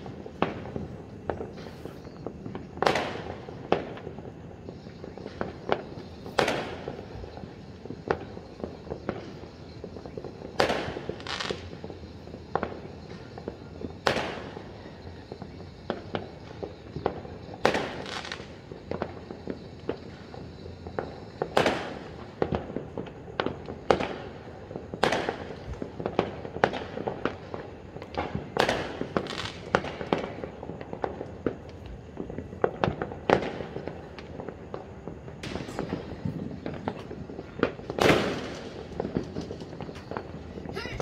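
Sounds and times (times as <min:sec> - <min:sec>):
fireworks bangs and pops: 0:00.0 - 0:41.0.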